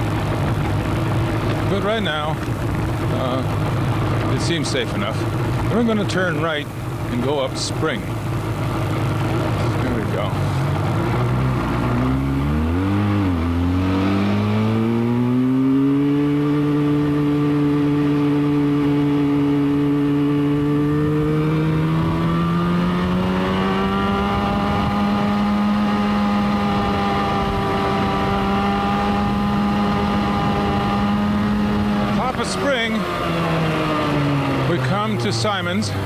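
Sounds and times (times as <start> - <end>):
motorcycle engine pulling uphill: 0.0 - 36.0.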